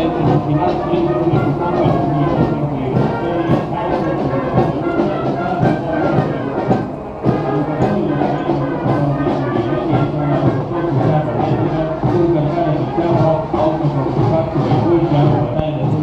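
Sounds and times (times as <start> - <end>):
military brass band playing: 0.0 - 16.0.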